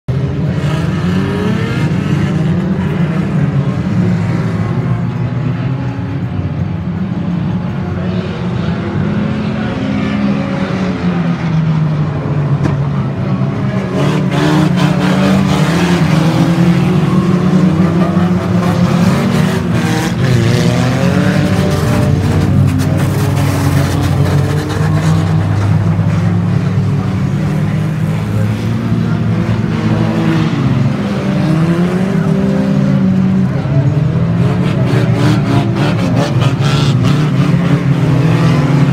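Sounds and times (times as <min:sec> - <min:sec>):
racing car engines: 0:00.1 - 0:38.9.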